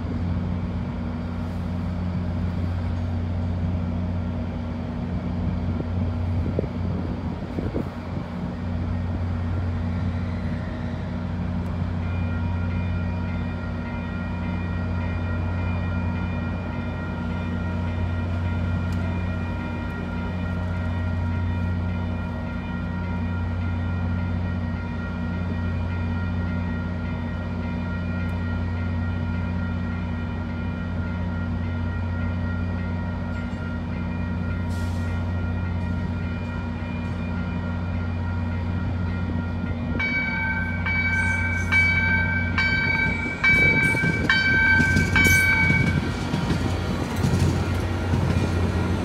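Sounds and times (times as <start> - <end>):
railroad crossing bell ringing: 0.0 - 49.0
train rumble: 0.0 - 49.0.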